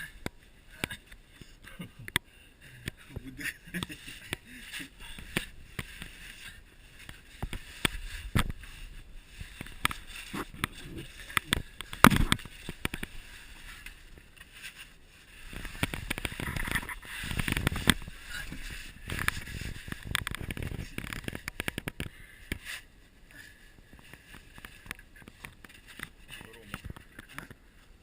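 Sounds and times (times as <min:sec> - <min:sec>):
clothing scraping against rock: 0:03.8 - 0:27.5.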